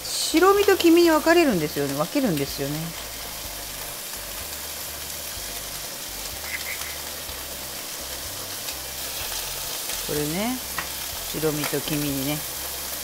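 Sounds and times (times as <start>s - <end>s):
bacon sizzling in frying pan: 0.0s - 13.0s.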